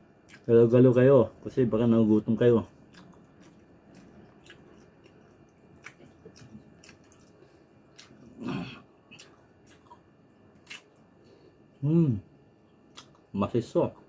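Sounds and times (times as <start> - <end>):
man chewing food: 0.0 - 11.8, 12.4 - 13.3.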